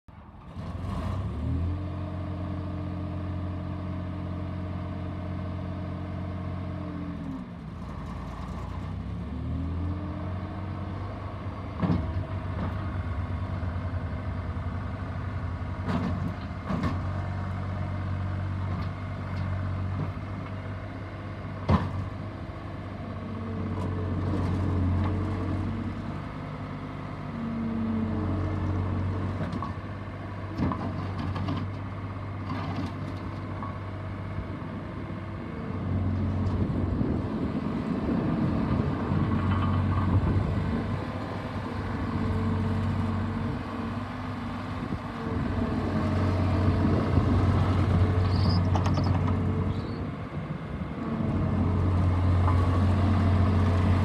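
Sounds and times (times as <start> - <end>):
diesel engine revving: 0.4 - 33.3, 34.0 - 54.0.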